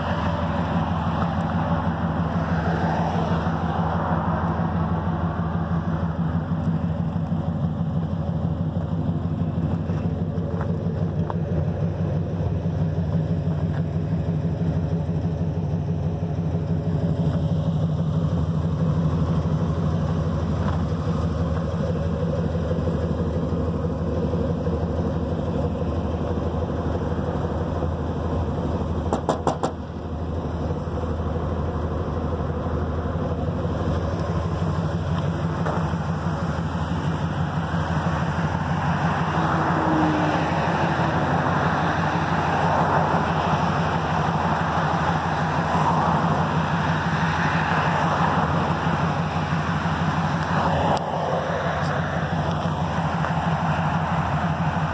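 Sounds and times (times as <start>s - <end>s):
pickup engine idling: 0.0s - 54.9s.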